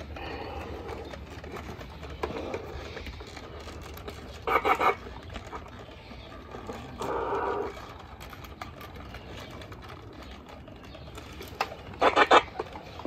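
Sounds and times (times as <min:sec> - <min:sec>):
plastic helmet scraping and rustling: 0:00.0 - 0:13.0.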